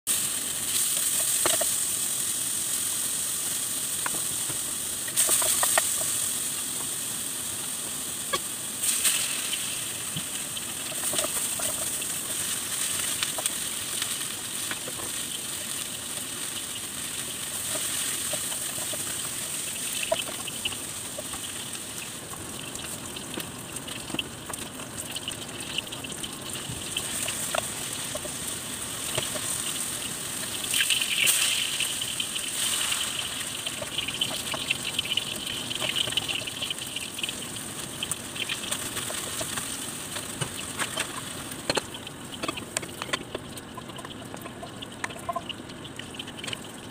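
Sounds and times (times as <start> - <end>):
bacon sizzling in a frying pan: 0.1 - 46.9
pops and clicks: 0.8 - 1.8, 4.0 - 6.2, 8.3 - 16.8, 17.6 - 28.4, 29.0 - 29.8, 30.6 - 46.9.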